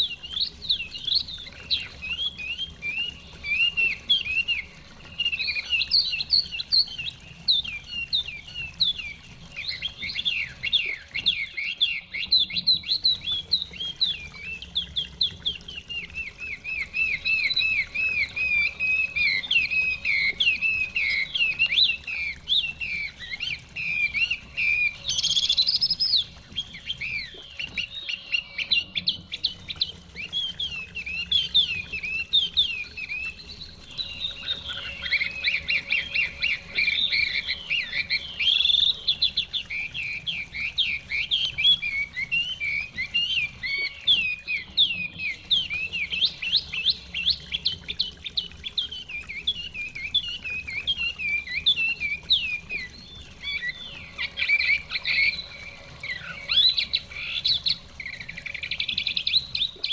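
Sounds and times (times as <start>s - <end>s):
songbirds singing whistled trills: 0.0s - 59.9s.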